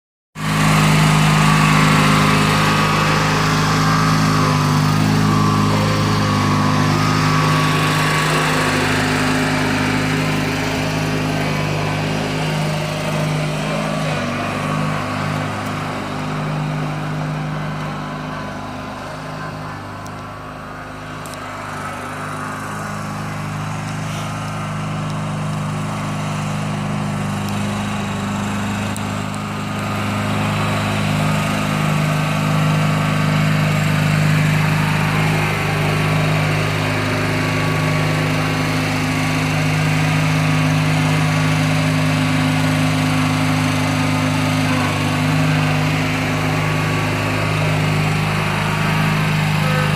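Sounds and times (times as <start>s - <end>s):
garden tractor engine running: 0.4s - 49.9s.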